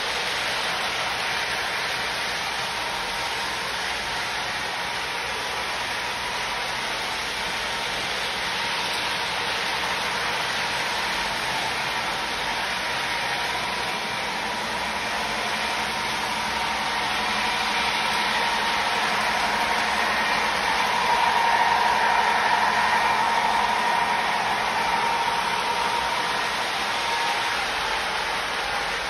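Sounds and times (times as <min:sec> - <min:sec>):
model train motors whirring: 0:00.0 - 0:29.0.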